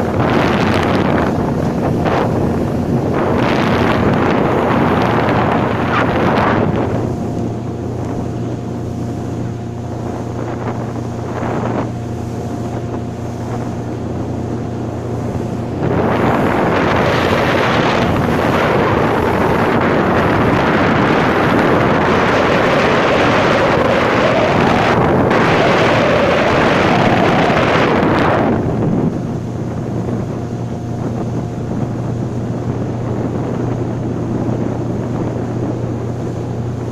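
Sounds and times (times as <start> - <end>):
motorboat engine running: 0.0 - 36.9
rush of wind and water: 0.0 - 36.9
wind on microphone: 0.0 - 36.9.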